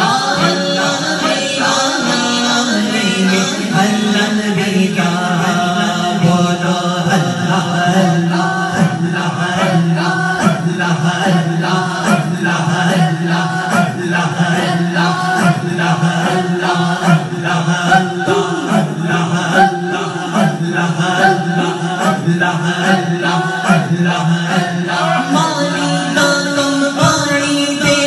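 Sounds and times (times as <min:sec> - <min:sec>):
group chanting rhythmically: 0:00.0 - 0:28.0
man chanting into a microphone: 0:00.0 - 0:28.0.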